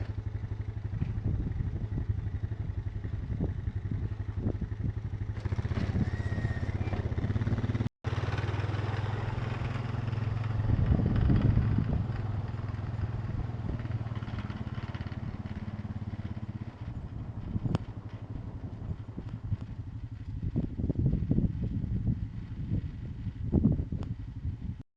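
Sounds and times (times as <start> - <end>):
engine humming: 0.0 - 24.8
gusty rumbling: 0.0 - 24.8.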